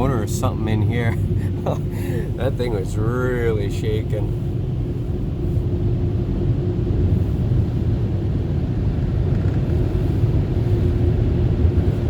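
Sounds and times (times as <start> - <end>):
car wash machinery rumbling: 0.0 - 12.0
constant hum: 0.0 - 12.0.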